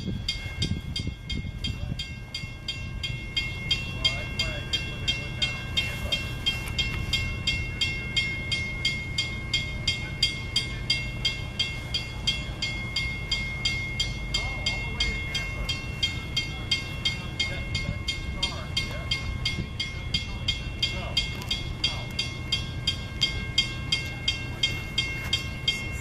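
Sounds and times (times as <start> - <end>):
railroad crossing bell ringing: 0.0 - 26.0
steady low rumble: 0.0 - 26.0.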